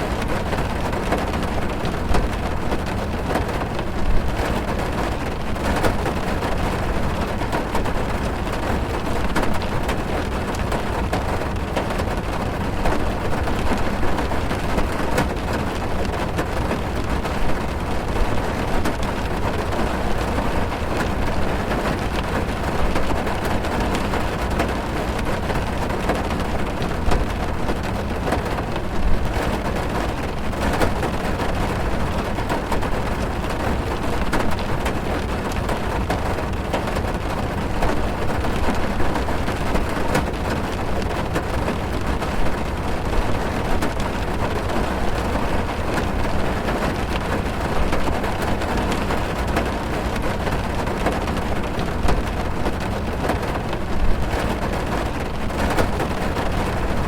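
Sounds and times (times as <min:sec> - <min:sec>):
rain drumming on car roof: 0:00.0 - 0:57.0.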